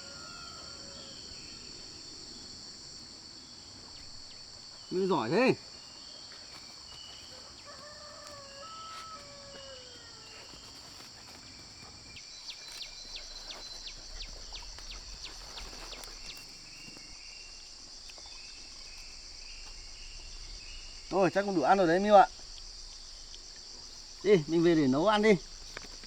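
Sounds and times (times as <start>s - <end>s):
chorus of crickets and insects: 0.0s - 26.0s.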